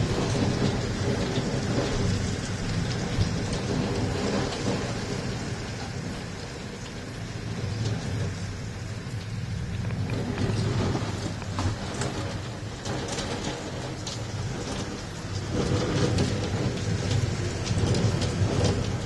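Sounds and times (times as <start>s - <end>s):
deep low rumble: 0.0s - 19.0s
rain falling: 0.0s - 19.0s.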